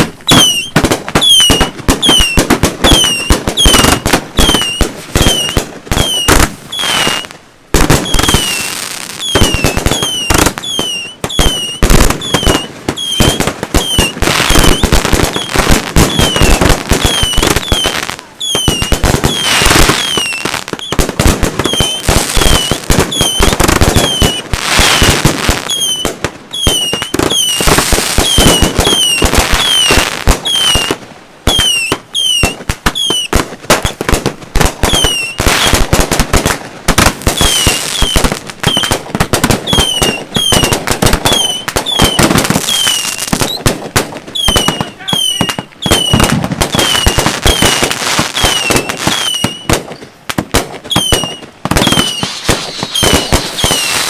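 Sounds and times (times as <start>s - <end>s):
falling fireworks whistles: 0.0s - 54.0s
fireworks bangs and pops: 0.0s - 54.0s
fireworks crackling: 0.0s - 54.0s.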